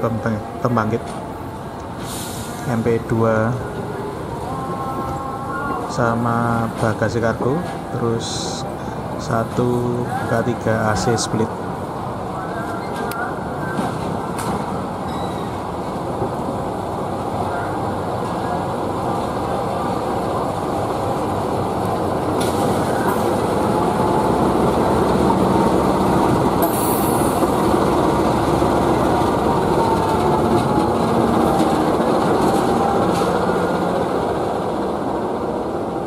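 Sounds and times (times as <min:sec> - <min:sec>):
diesel locomotive engine: 0:00.0 - 0:36.0
train wheels rolling on rails: 0:00.6 - 0:36.0.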